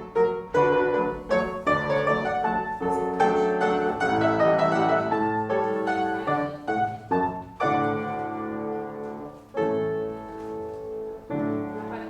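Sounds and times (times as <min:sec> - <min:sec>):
piano chords ringing: 0:00.0 - 0:12.0.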